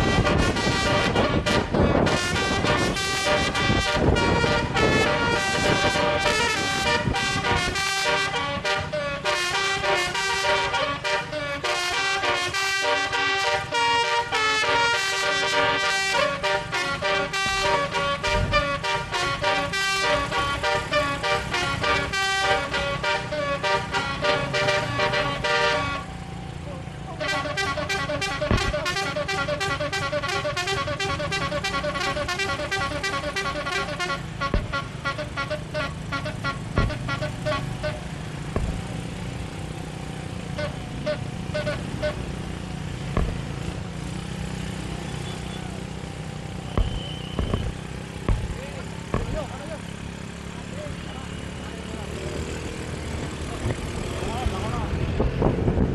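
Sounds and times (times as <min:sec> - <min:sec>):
musical bus air horn melody: 0:00.0 - 0:26.3, 0:27.1 - 0:49.2.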